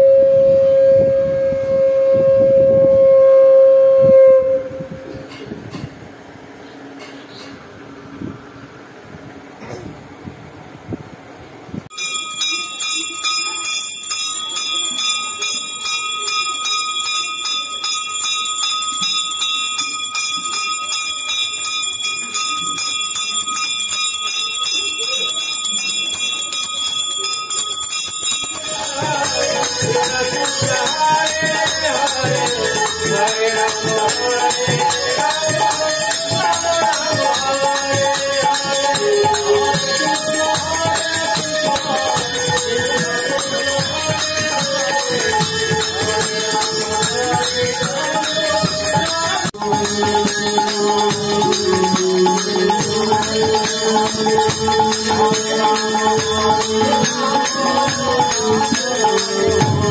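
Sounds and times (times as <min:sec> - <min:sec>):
hand bell ringing: 0:11.9 - 0:59.9.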